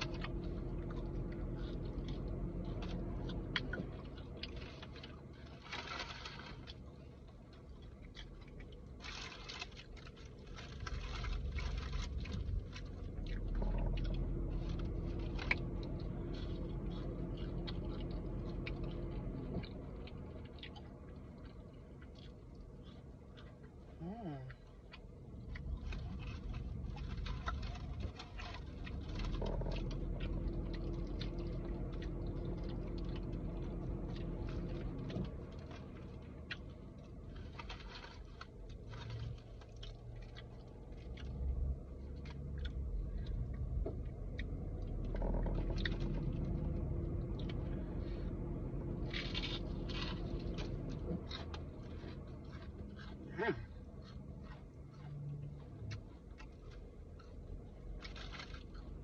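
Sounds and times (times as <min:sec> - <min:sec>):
chewing and mouth sounds: 0:00.0 - 0:59.0
low steady hum: 0:00.0 - 0:59.0.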